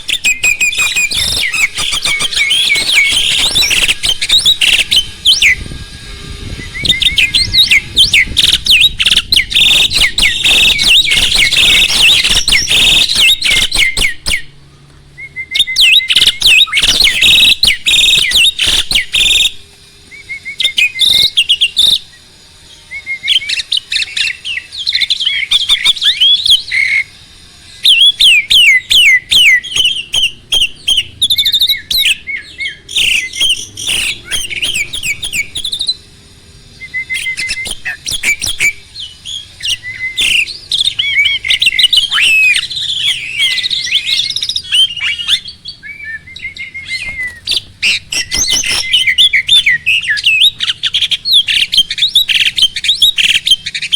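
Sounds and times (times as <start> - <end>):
starling singing: 0.0 - 14.6, 15.2 - 53.9.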